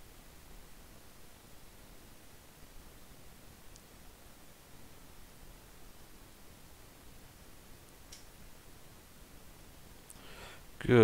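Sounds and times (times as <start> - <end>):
faint microphone hiss: 0.0 - 11.0.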